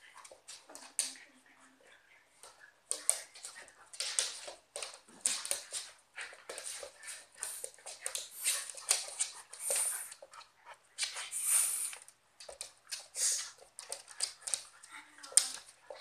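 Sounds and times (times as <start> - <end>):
dogs scuffling: 0.0 - 16.0.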